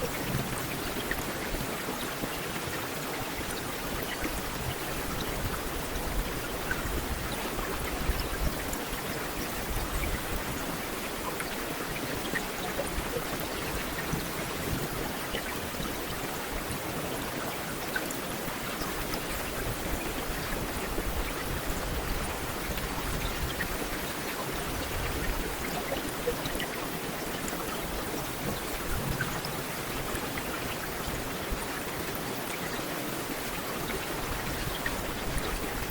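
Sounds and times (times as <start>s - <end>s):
heavy rain on pavement: 0.0s - 35.9s.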